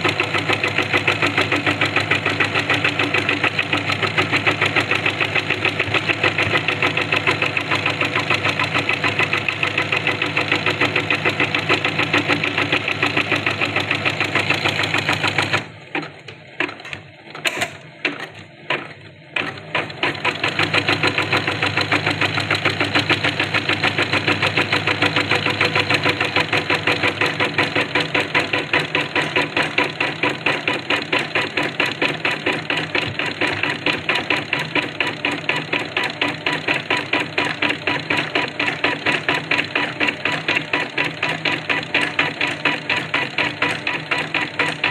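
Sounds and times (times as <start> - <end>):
embroidery machine stitching: 0.0 - 44.9.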